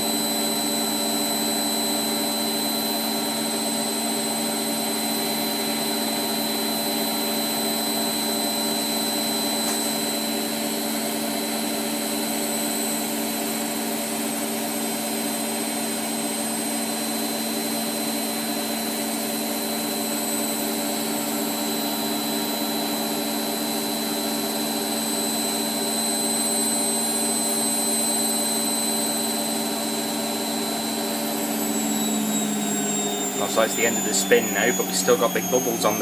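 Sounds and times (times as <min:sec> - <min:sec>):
washing machine spinning: 0:00.0 - 0:36.0.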